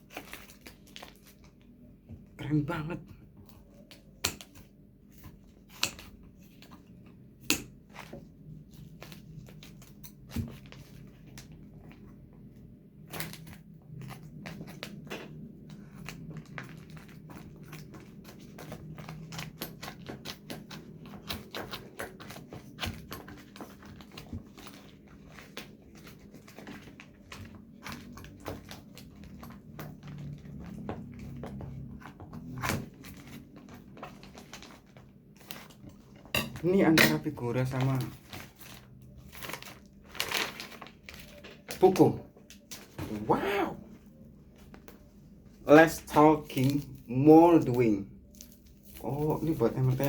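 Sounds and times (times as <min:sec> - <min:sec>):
packaging crinkling and rustling: 0:00.0 - 0:01.8, 0:03.4 - 0:50.0.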